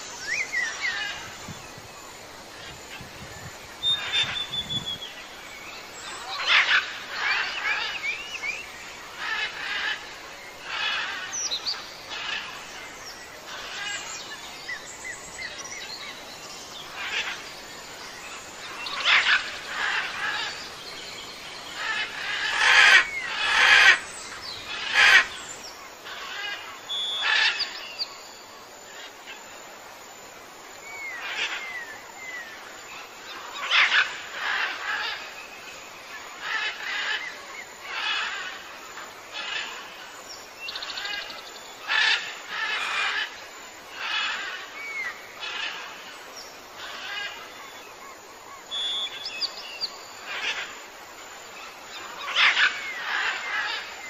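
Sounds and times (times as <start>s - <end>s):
birds chirping and calling: 0.0s - 28.2s, 31.0s - 54.0s.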